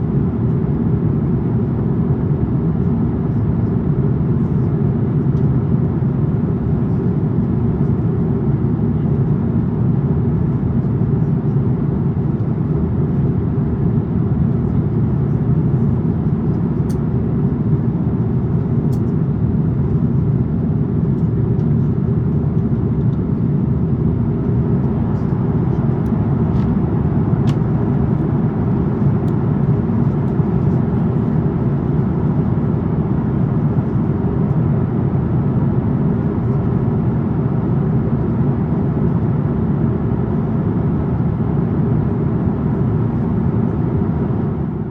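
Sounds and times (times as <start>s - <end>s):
airplane cabin drone: 0.0s - 44.9s.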